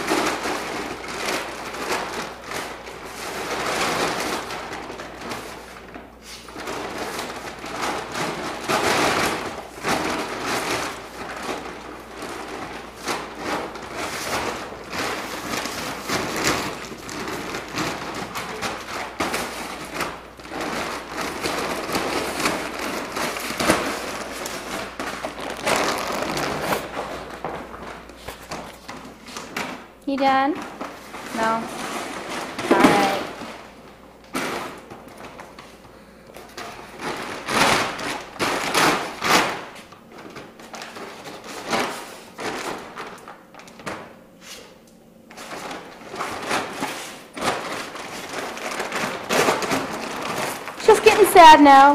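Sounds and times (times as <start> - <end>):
plastic bag crinkling and rustling: 0.0 - 44.3, 45.3 - 51.9.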